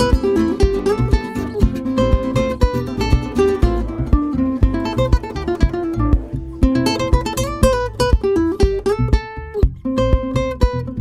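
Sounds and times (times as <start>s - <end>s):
low bass notes: 0.0s - 11.0s
plucked-string melody: 0.0s - 11.0s.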